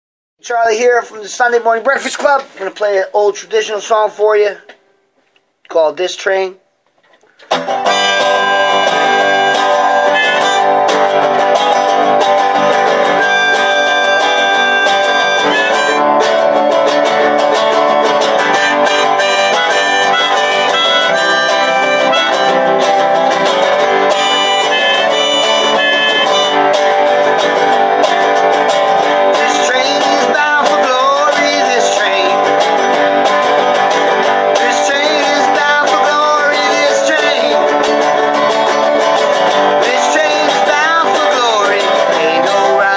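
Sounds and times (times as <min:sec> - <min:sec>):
strummed resonator guitar: 0:07.0 - 0:42.9
banjo: 0:07.4 - 0:42.9
harmonica bending notes: 0:07.5 - 0:42.9.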